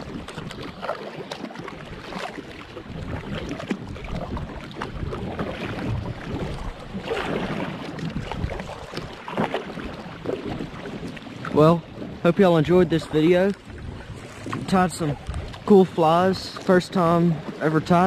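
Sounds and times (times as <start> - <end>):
paddle splashing into water: 0.0 - 18.0.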